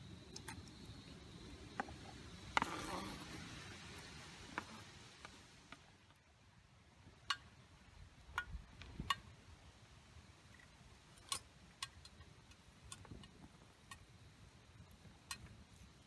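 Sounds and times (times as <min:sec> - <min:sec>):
campfire crackling pops: 0:00.0 - 0:06.3, 0:07.0 - 0:09.6, 0:10.4 - 0:16.0
faint steady background noise: 0:00.0 - 0:16.0.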